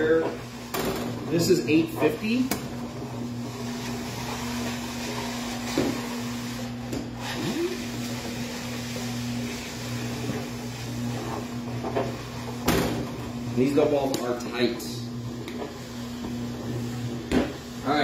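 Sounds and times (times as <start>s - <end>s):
electric motor hum: 0.0s - 18.0s.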